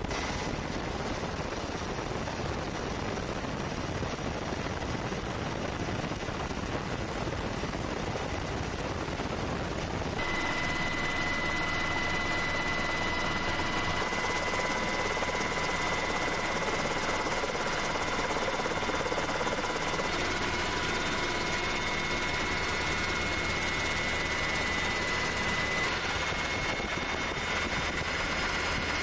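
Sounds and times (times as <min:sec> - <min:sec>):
helicopter engine and rotor: 0:00.0 - 0:29.0
high turbine whine: 0:00.0 - 0:29.0.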